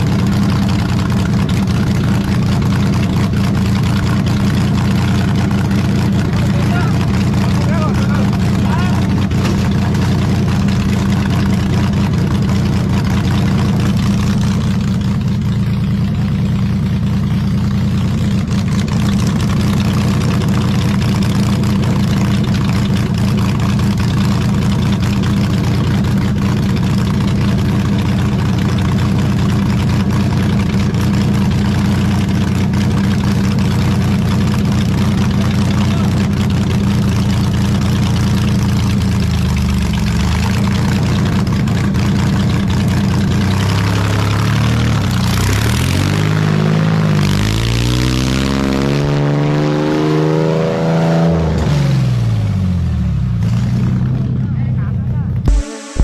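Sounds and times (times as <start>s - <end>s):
car engine idling: 0.0s - 48.2s, 51.4s - 56.0s.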